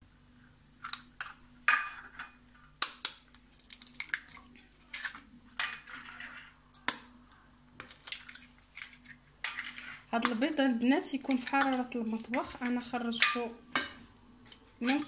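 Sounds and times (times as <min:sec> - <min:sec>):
eggs cracking on a metal bowl: 0:00.8 - 0:15.0.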